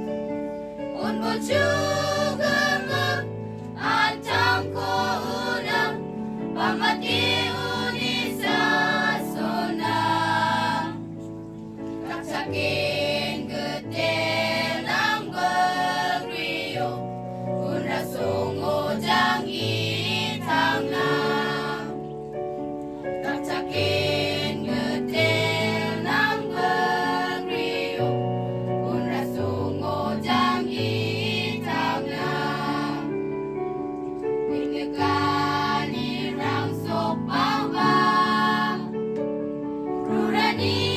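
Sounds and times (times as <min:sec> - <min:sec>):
choir singing: 0:00.9 - 0:11.1, 0:11.9 - 0:22.1, 0:23.2 - 0:33.2, 0:34.5 - 0:39.0, 0:40.0 - 0:40.9.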